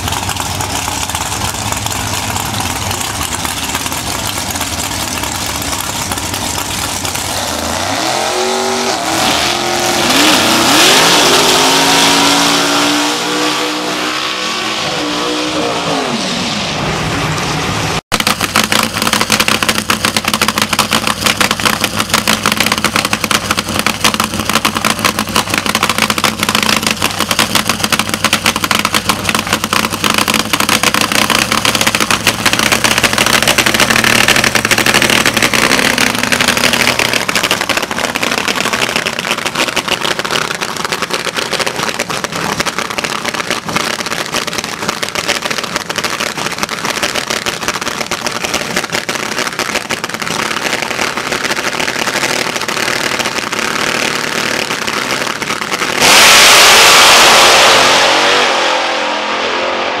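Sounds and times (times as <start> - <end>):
drag car engine crackling and revving: 0.0 - 60.0.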